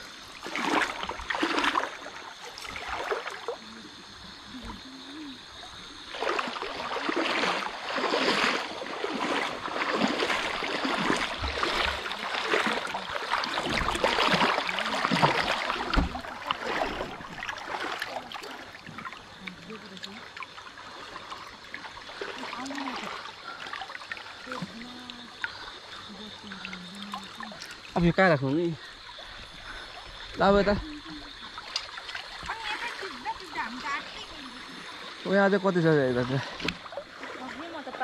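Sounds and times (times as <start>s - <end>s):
stream trickling: 0.0s - 38.0s
water splashing and sloshing: 0.0s - 38.0s.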